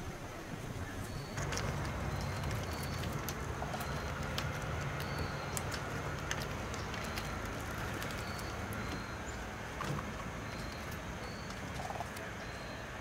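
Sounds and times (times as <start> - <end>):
steady low hum: 0.0 - 13.0
high-pitched bird calls: 0.8 - 5.9, 6.7 - 13.0.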